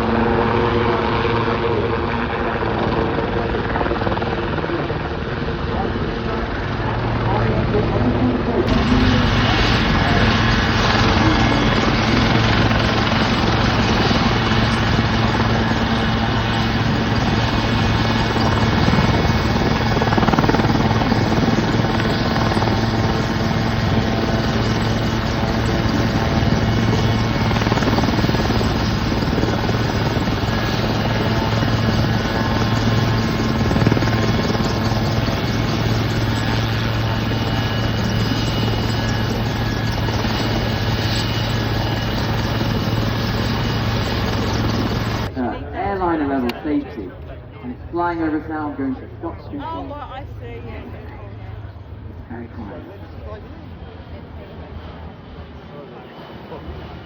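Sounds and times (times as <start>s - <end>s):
helicopter rotor and turbine drone: 0.0s - 57.0s.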